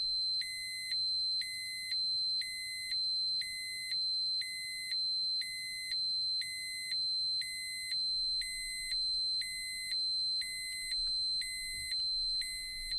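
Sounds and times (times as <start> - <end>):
two-tone dosimeter alarm beep: 0.0 - 12.9.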